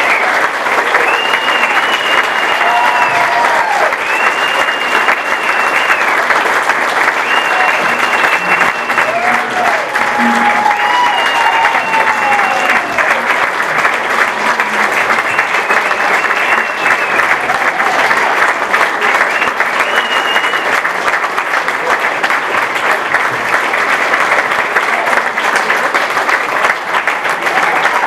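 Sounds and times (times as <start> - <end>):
crowd applauding: 0.0 - 28.0.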